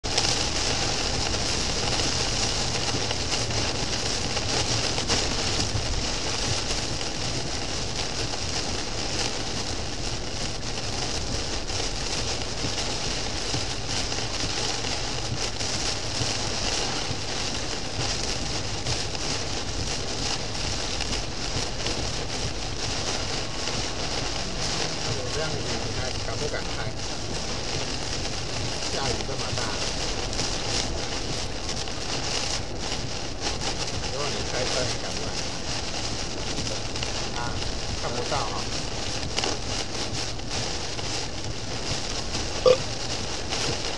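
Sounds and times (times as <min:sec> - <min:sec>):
heavy rain on car roof: 0:00.0 - 0:43.9.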